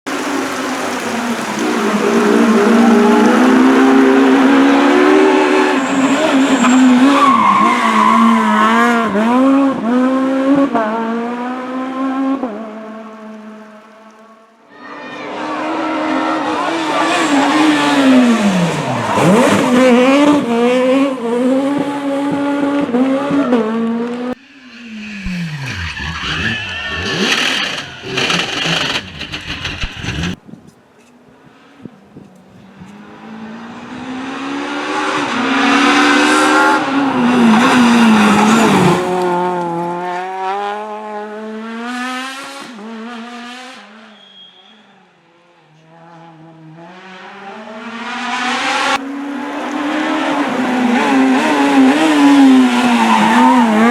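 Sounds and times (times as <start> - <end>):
rally cars passing at speed: 0.1 - 30.5, 31.4 - 53.9
engine revving through gear changes: 1.5 - 13.8, 15.5 - 30.4, 32.8 - 43.8, 46.9 - 53.9.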